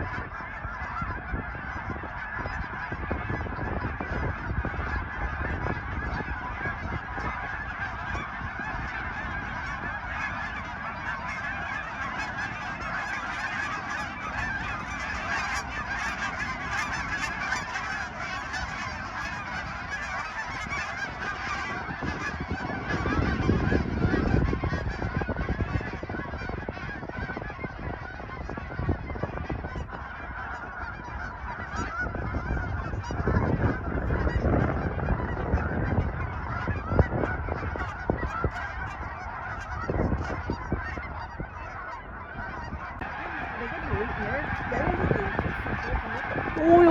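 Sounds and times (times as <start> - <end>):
flock of geese honking: 0.0 - 46.9.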